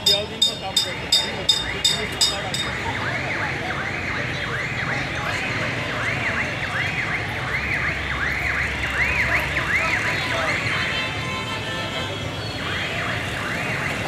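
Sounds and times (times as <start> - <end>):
busy street market hubbub: 0.0 - 14.0.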